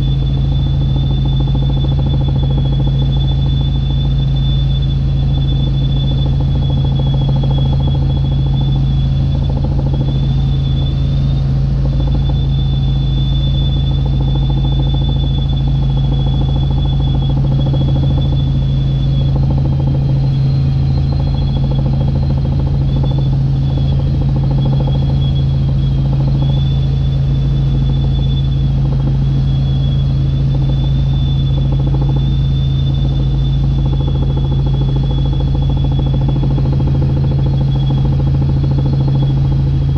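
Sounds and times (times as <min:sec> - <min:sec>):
helicopter engine and rotor drone: 0:00.0 - 0:39.9
high whine: 0:00.0 - 0:39.9.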